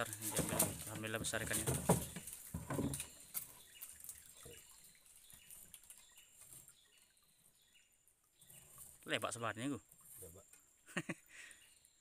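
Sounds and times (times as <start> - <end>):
water drips: 0.0 - 10.6.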